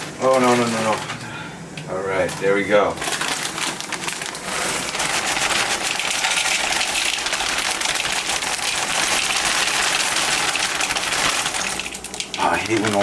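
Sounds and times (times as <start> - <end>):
cereal pouring into bowl: 2.3 - 13.0.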